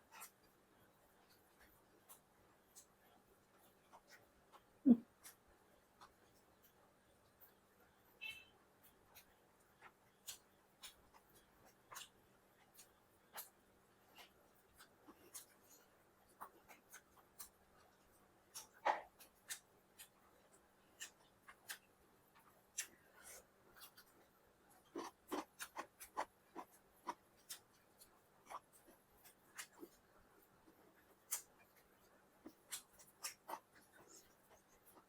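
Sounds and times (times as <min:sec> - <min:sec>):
chewing and food handling: 0:00.0 - 0:07.6, 0:08.8 - 0:35.0.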